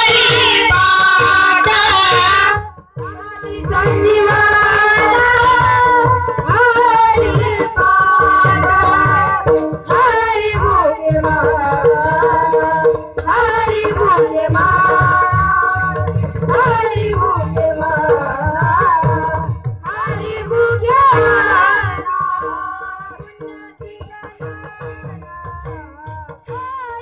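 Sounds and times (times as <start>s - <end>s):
boy singing devotional song: 0.0s - 27.0s
pakhawaj drumming: 0.0s - 27.0s.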